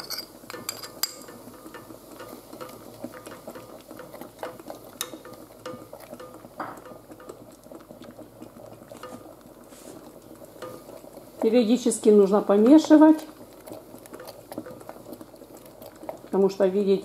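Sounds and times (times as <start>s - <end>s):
metal spoon stirring in pot: 0.0s - 16.4s
frying sizzle: 0.0s - 17.0s.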